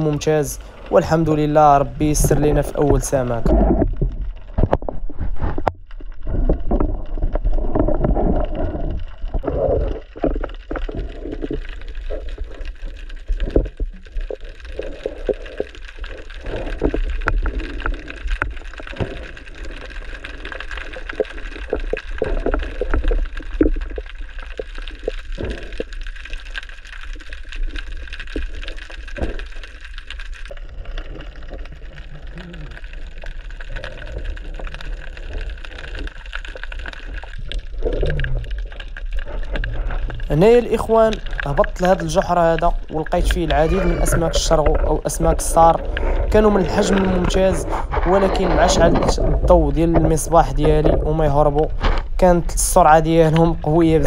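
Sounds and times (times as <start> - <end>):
water gurgling and sloshing: 0.0 - 54.0.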